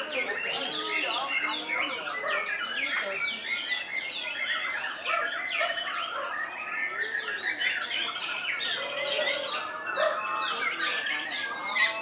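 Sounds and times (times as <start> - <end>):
many songbirds singing: 0.0 - 12.0.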